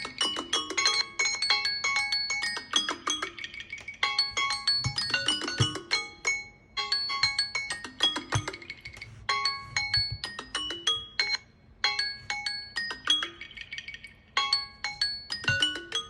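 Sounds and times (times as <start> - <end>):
chiming marimba-like alarm melody: 0.0 - 16.0.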